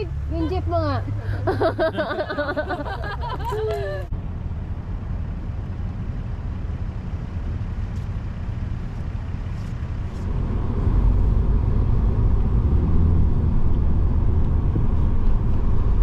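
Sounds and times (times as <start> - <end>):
vehicle engine heard from cabin: 0.0 - 16.0.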